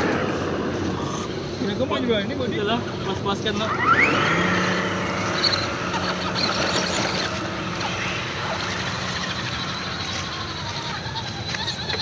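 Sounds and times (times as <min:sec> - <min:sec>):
rc car motor whine: 0:00.0 - 0:12.0.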